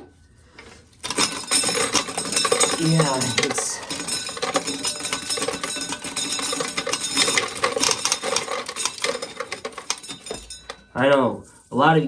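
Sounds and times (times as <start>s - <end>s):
corn sheller clattering: 0.6s - 11.6s.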